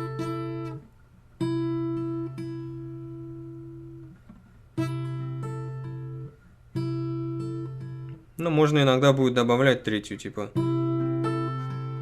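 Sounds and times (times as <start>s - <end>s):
guitar fingerpicked slowly: 0.0s - 8.4s, 10.5s - 12.0s.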